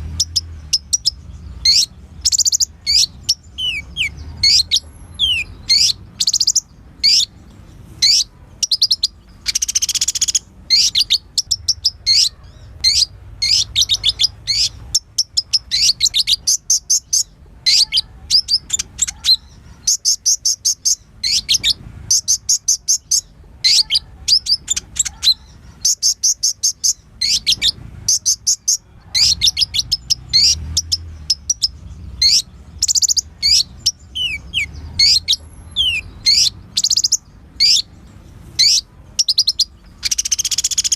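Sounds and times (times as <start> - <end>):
sunbird song of chirps and trills: 0.0 - 40.9.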